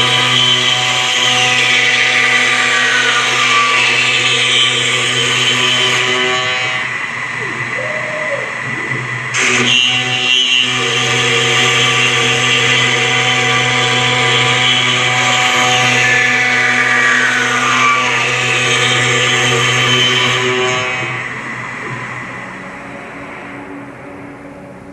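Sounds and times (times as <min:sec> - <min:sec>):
cnc router spindle whine: 0:00.0 - 0:24.9.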